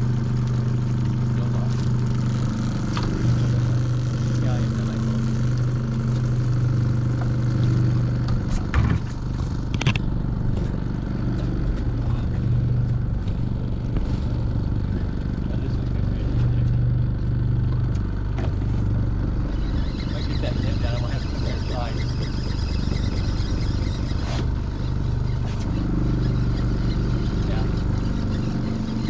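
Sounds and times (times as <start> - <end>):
outboard motor humming: 0.0 - 29.0.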